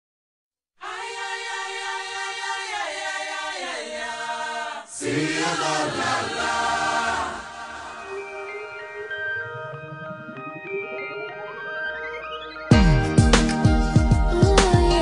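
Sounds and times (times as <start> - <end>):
choir singing held chords: 0.8 - 15.0.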